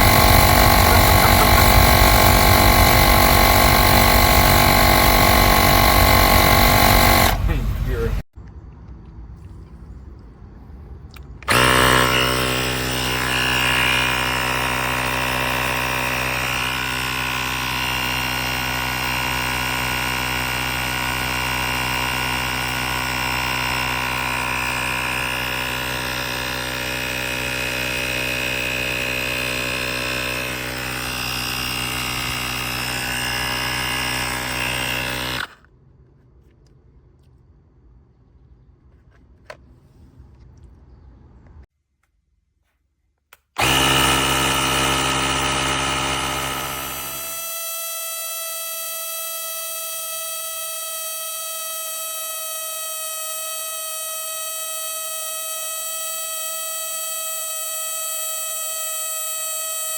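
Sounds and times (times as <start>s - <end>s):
air compressor motor hum: 0.0s - 8.2s, 11.4s - 35.6s, 43.6s - 59.9s.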